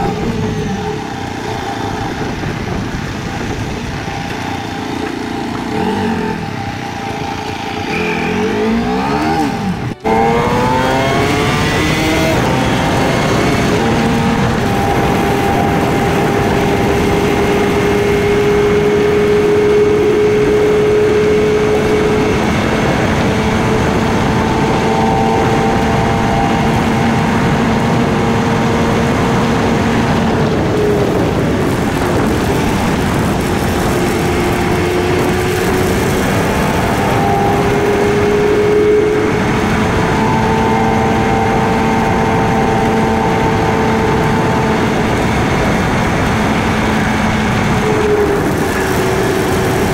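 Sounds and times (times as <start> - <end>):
motorcycle engine running: 0.0 - 49.9
wind and road noise: 0.0 - 49.9.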